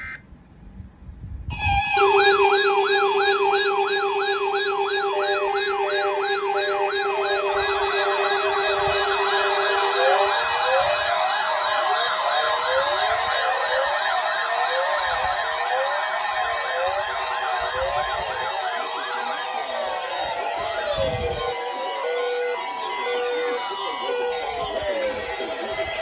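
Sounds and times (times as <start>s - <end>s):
rising siren wails: 1.5s - 26.0s
yelping electronic siren: 1.5s - 26.0s.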